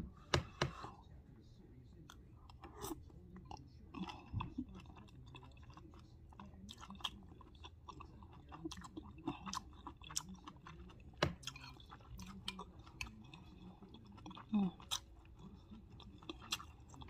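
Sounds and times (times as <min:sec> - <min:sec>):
person chewing food: 0:02.1 - 0:17.0.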